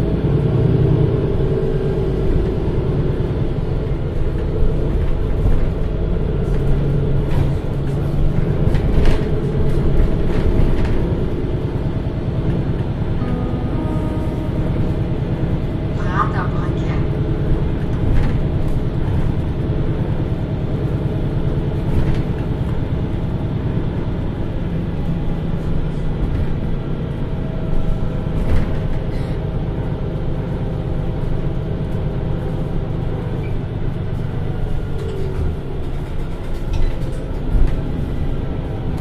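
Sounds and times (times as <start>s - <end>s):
bus diesel engine running: 0.0s - 39.0s.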